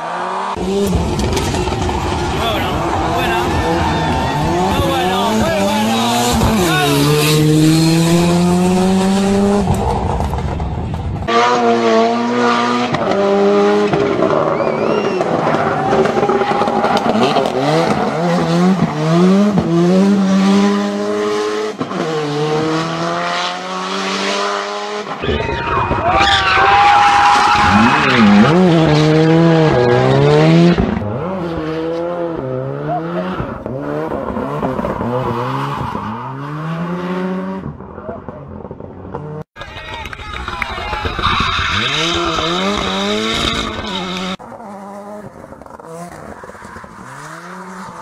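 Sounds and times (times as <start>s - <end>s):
rally car engine revving: 0.0s - 48.0s.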